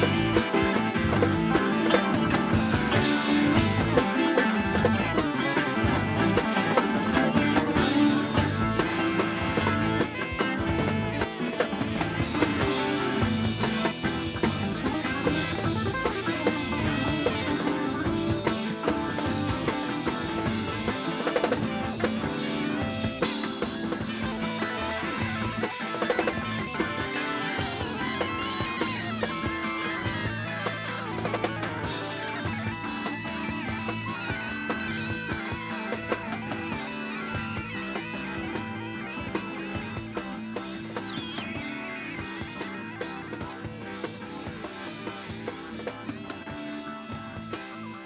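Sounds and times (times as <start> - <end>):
bass guitar: 0.0 - 48.0
drum kit: 0.0 - 48.0
electric guitar: 0.0 - 48.0.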